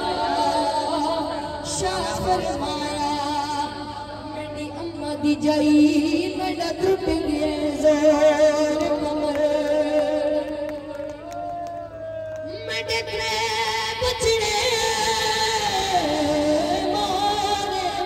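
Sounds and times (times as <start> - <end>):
boy singing a lament: 0.0 - 11.0, 12.4 - 18.0.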